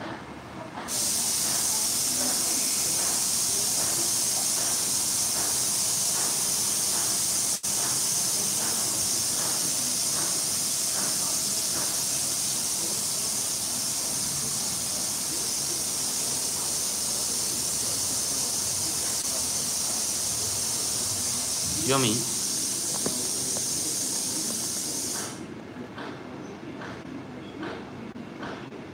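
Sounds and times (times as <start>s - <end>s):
loud steady hiss: 0.9s - 25.5s.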